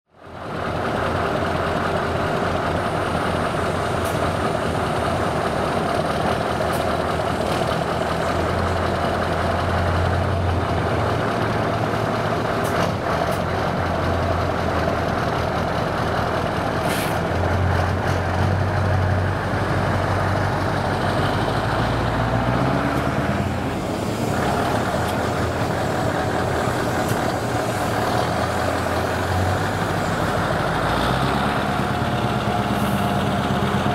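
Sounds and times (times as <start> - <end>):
diesel truck engine running: 0.2 - 33.9.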